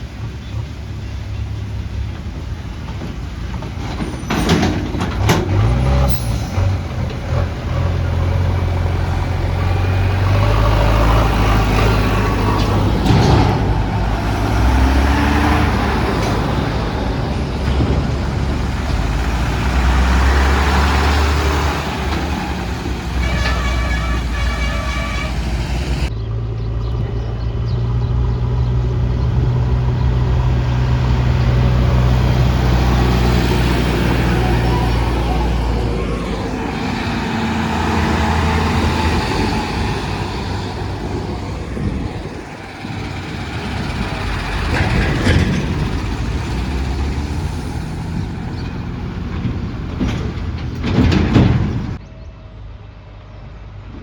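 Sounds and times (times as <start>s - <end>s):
heavy diesel engine working: 0.0s - 54.0s.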